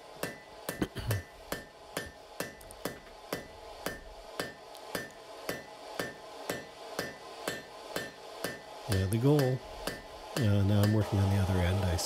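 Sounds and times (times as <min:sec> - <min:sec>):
hammer striking anvil: 0:00.2 - 0:11.4.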